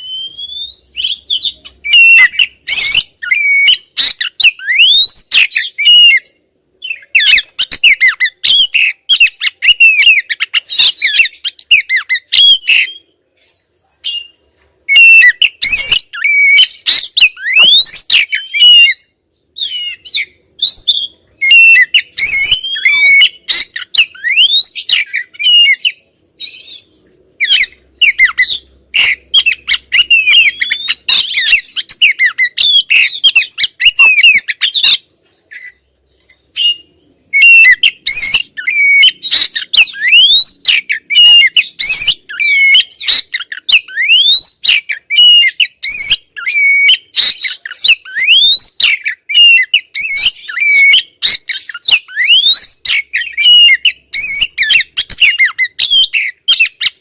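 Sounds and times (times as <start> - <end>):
bird calling with whistled notes: 0.0 - 13.2, 13.8 - 57.0.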